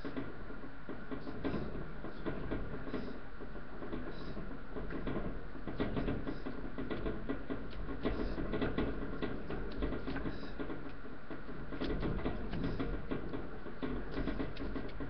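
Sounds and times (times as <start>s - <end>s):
small paws pattering: 0.0s - 15.0s.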